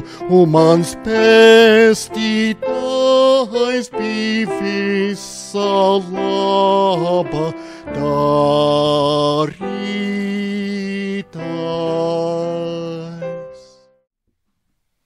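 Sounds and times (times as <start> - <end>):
hymn singing in long notes: 0.0 - 13.8.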